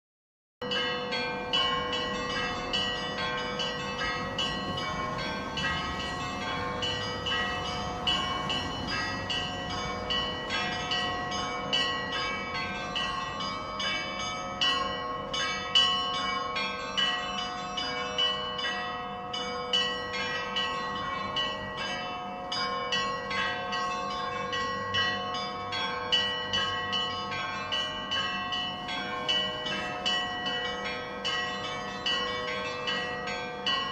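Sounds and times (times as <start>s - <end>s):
church bells ringing: 0.6s - 33.9s.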